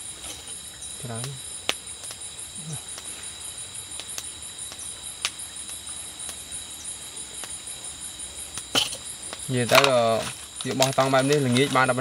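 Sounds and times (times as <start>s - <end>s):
insects chirping trills: 0.0s - 12.0s.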